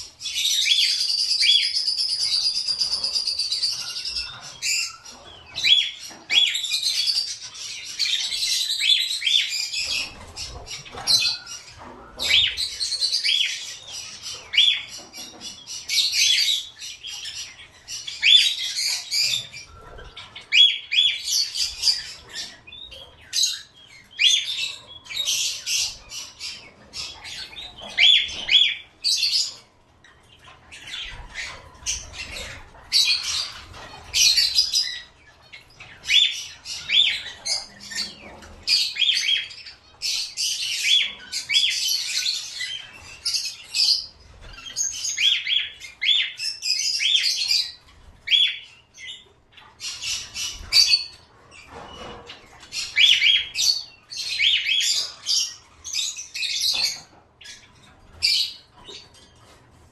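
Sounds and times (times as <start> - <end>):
pet birds chirping and squawking: 0.0 - 59.9.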